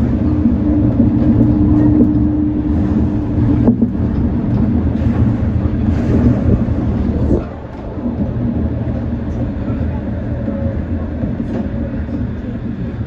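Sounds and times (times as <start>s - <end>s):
monorail car rumble: 0.0s - 13.0s
steady hum: 0.0s - 13.0s.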